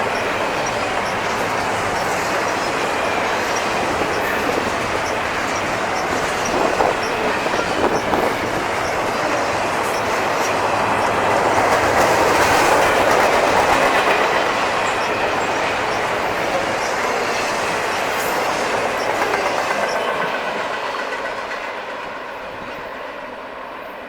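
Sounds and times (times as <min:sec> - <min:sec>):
wheels clicking over rail joints: 0:00.0 - 0:22.8
freight train rolling past: 0:00.0 - 0:24.0.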